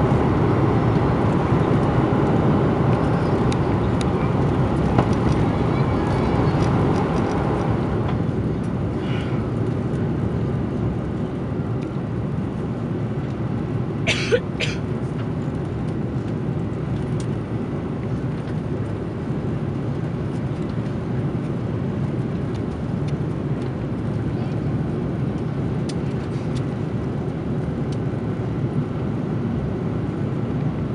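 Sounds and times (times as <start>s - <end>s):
jet engine cabin noise: 0.0s - 30.9s.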